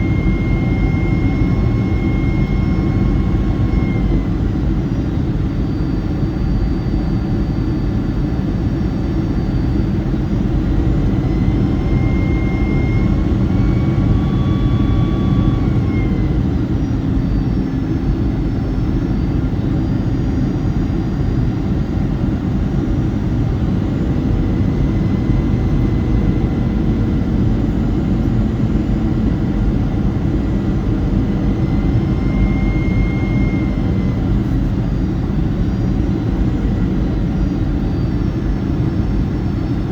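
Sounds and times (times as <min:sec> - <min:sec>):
faint whining tones: 0:00.0 - 0:39.9
jet engine cabin roar: 0:00.0 - 0:39.9.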